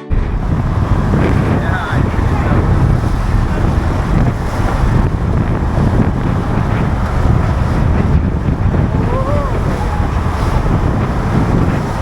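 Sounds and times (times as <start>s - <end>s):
water rushing: 0.0s - 12.0s
wind buffeting microphone: 0.0s - 12.0s.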